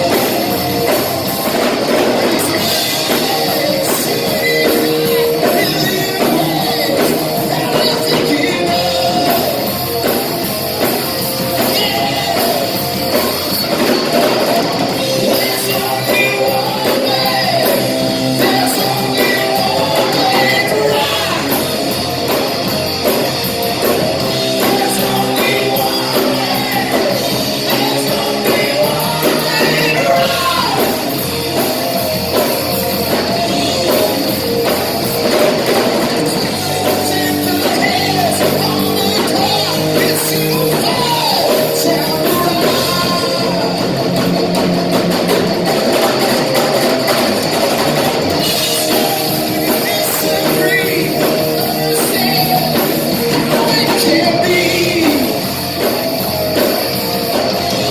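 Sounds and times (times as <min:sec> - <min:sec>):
person singing: 0:00.0 - 0:22.5, 0:23.1 - 0:44.6, 0:45.8 - 0:57.9
drums: 0:00.0 - 0:57.9
electric guitar: 0:00.0 - 0:57.9.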